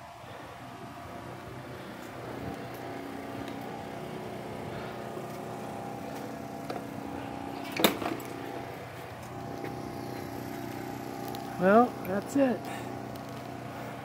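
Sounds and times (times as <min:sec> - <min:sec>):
low hum of held tones: 0:00.0 - 0:14.0.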